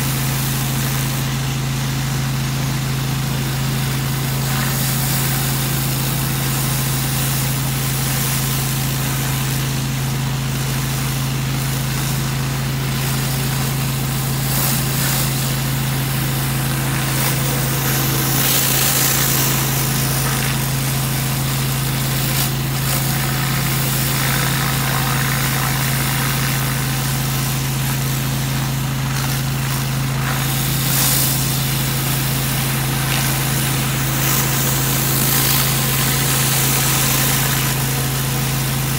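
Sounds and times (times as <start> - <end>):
high-pressure water spray hissing: 0.0 - 38.9
pressure washer engine running: 0.0 - 38.9.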